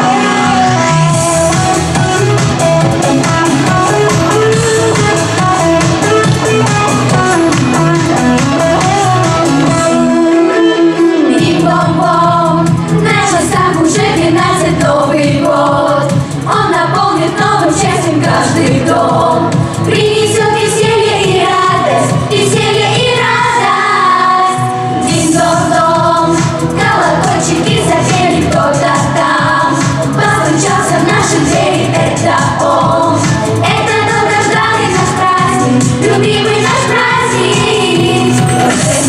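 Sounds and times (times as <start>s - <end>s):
band backing track: 0.0s - 39.0s
vocal group singing: 0.0s - 39.0s.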